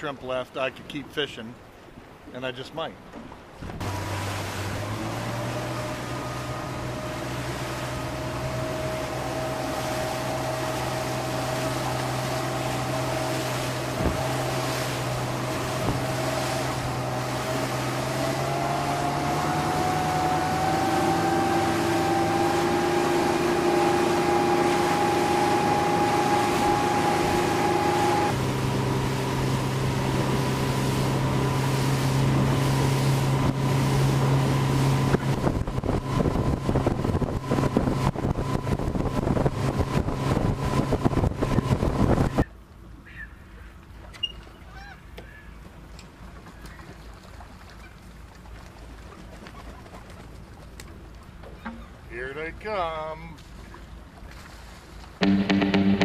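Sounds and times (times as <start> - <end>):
water rushing: 0.0 - 42.5, 50.2 - 56.0
outboard motor driving boat: 0.0 - 56.0.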